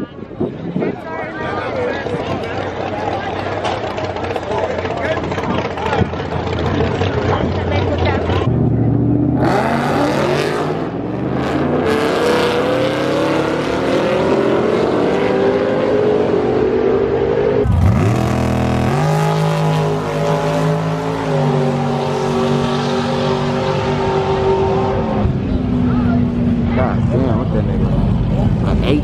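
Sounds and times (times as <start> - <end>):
racing engines at full throttle: 0.0 - 29.0.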